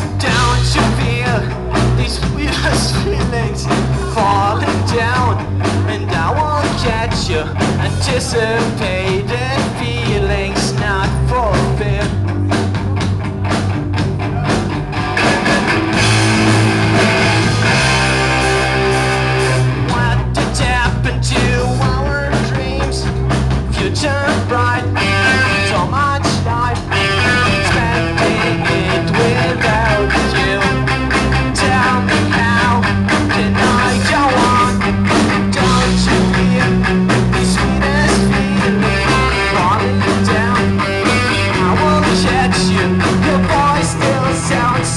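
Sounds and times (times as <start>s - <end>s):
bass guitar: 0.0s - 44.9s
drum beat: 0.0s - 44.9s
electric guitar: 0.0s - 44.9s.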